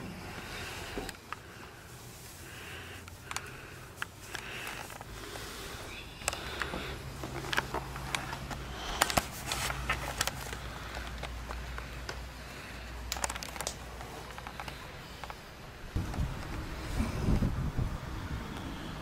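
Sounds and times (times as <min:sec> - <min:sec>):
handling clicks and rustling: 0:00.4 - 0:16.6.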